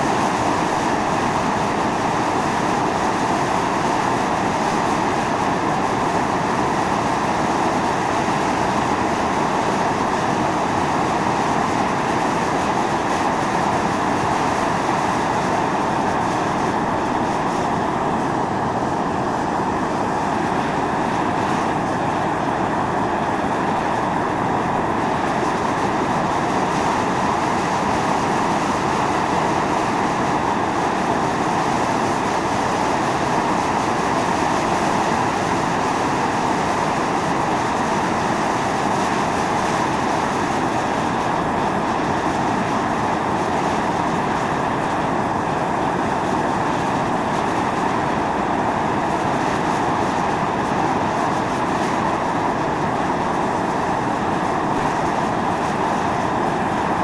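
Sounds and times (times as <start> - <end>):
steam venting hiss and roar: 0.0 - 57.0.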